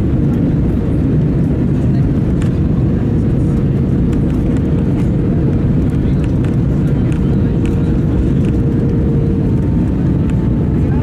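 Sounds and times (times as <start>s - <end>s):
engine and airflow rush: 0.0s - 11.0s.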